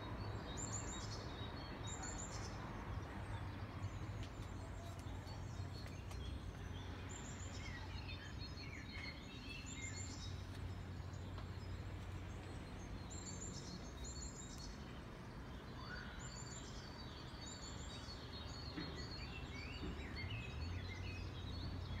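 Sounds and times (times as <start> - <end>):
songbirds chirping and trilling: 0.0 - 22.0.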